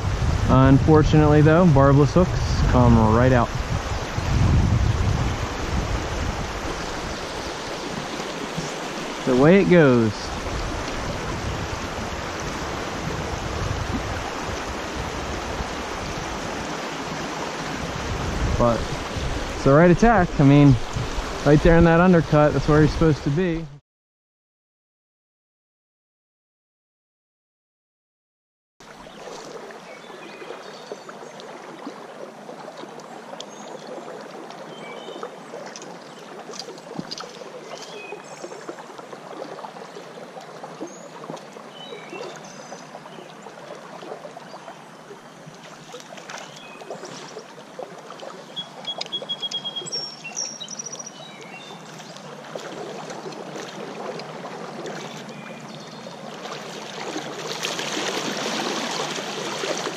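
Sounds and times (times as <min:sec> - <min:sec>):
creek water rippling: 0:00.0 - 0:23.8, 0:28.8 - 0:59.9.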